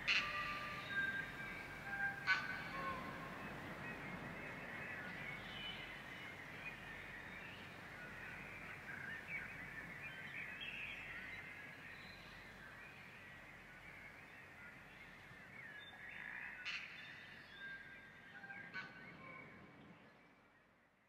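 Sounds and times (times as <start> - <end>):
birds chirping: 0.0 - 20.2
low outdoor background: 0.0 - 21.0.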